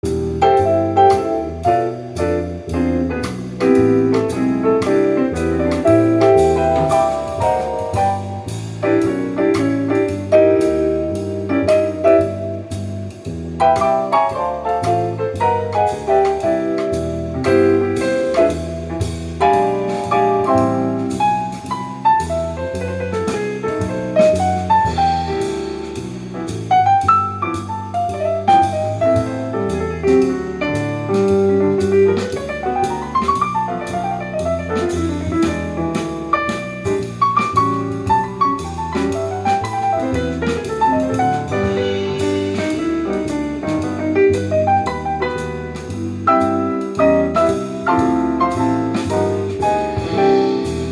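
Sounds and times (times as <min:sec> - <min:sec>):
drum kit steady beat: 0:00.0 - 0:50.9
jazz piano: 0:00.0 - 0:50.9.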